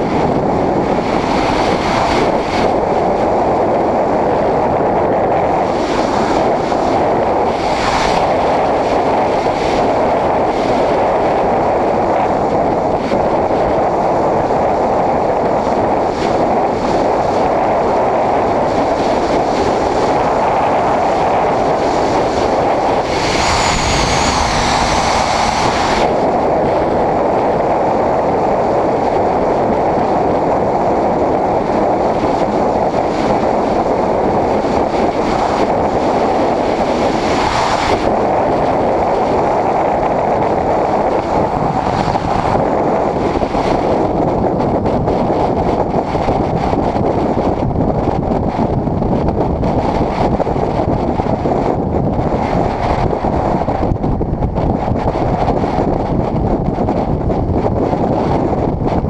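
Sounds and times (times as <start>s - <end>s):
wind rush over microphone: 0.0s - 59.0s.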